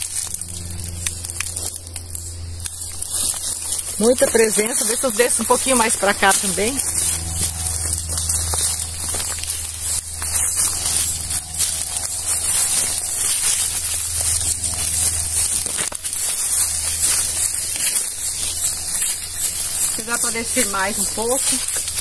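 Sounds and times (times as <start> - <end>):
brushing through undergrowth: 0.0 - 22.0
footsteps crunching on dry leaves: 0.0 - 22.0
low hum: 0.0 - 22.0.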